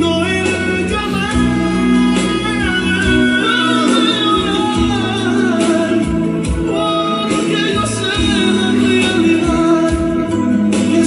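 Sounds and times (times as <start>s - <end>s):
worship song with singing voice: 0.0s - 11.0s.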